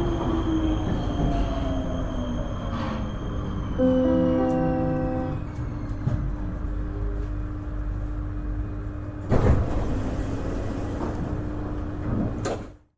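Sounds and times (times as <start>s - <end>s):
subway train rumbling: 0.0s - 12.9s.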